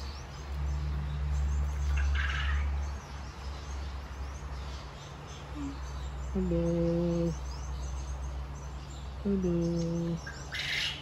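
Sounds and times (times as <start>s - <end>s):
faint birds chirping: 0.0s - 11.0s
low steady hum: 0.0s - 11.0s.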